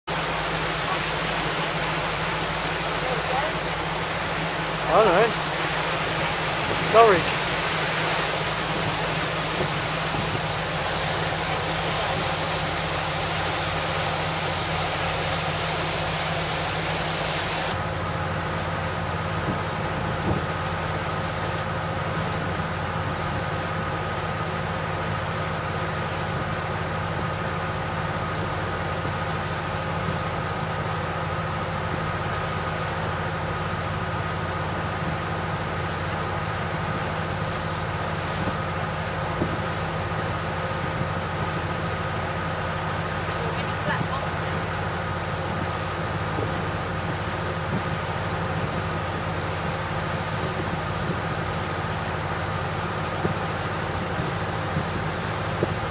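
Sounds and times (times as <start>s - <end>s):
boat engine drone: 0.1s - 55.9s
rush of water and wind: 0.1s - 55.9s.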